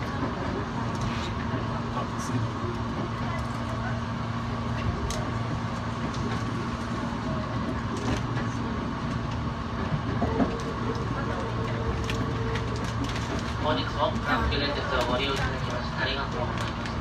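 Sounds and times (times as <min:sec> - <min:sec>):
electric train rolling rumble: 0:00.0 - 0:17.0.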